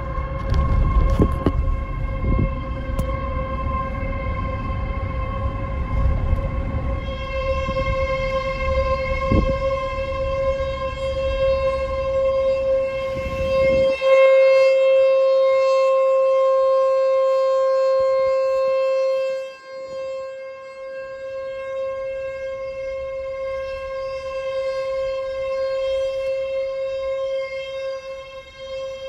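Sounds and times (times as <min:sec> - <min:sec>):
warning siren steady tone: 0:00.0 - 0:29.0.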